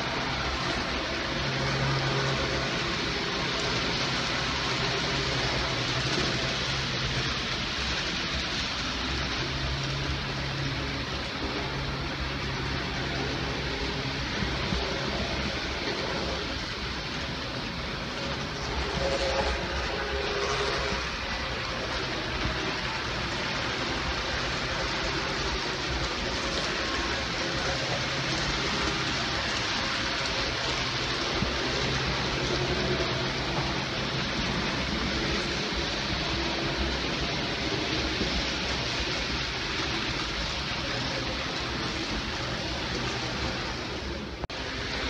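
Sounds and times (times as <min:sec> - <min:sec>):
model train wheels rolling: 0:00.0 - 0:45.0.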